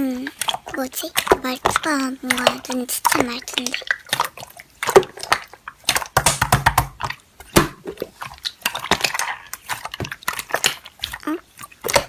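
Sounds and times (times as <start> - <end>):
slime clicking and squishing: 0.0 - 12.0.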